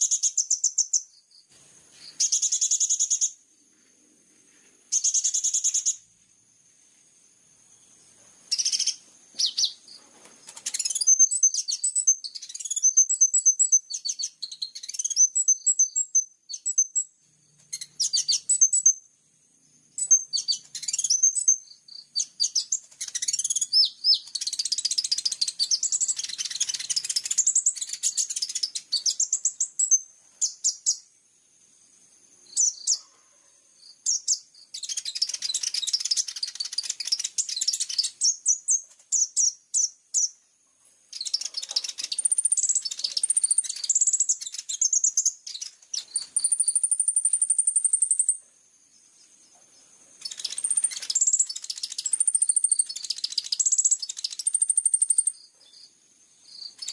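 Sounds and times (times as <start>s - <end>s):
songbird chirping and twittering: 0.0s - 56.9s.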